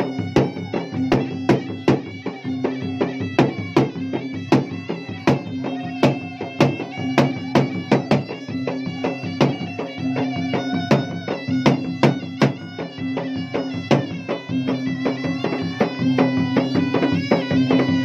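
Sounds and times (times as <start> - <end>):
drums beaten in fast rhythm: 0.0 - 18.0
reedy wind instrument: 0.0 - 18.0.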